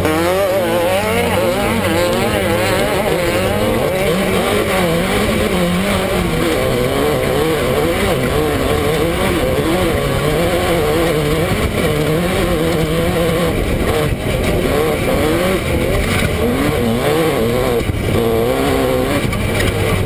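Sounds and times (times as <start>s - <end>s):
buggy engine revving: 0.0s - 20.0s
wind rush and driving noise: 0.0s - 20.0s.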